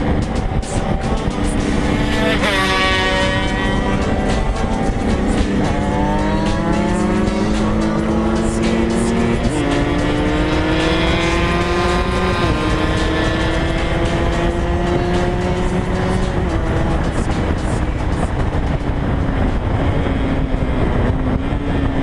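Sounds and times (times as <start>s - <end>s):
motorcycle accelerating hard: 0.0s - 22.0s.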